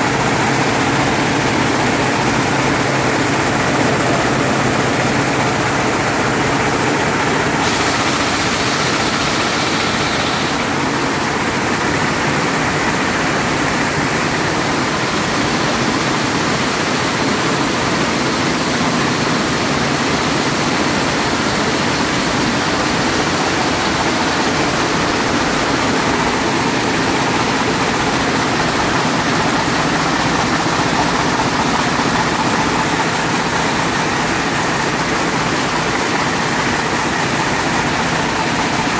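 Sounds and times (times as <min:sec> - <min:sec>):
weaving looms clattering and hissing: 0:00.0 - 0:38.9.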